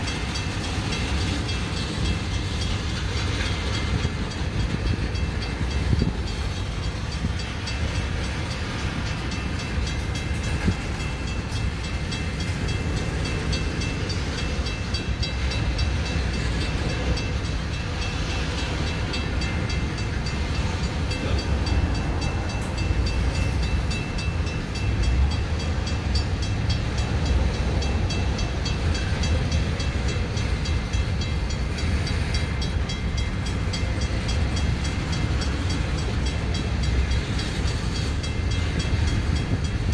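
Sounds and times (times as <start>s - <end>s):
freight train wheels rumbling on rails: 0.0s - 39.9s.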